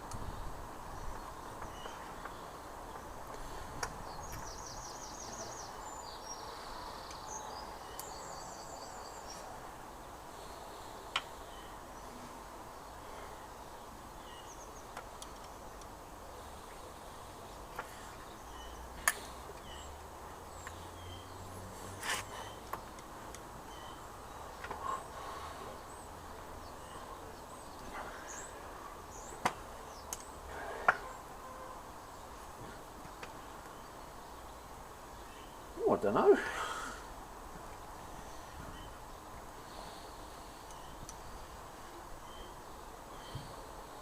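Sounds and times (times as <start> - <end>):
outdoor background noise: 0.0 - 44.0
bird chirping: 0.3 - 36.8, 37.8 - 44.0.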